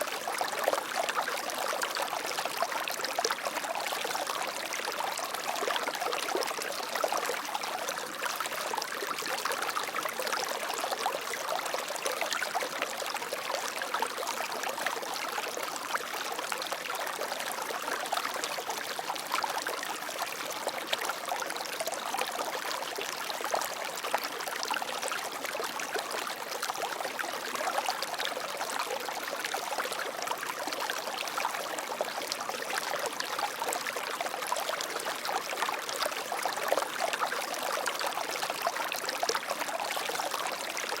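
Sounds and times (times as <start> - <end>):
stream water flowing and splashing: 0.0 - 41.0.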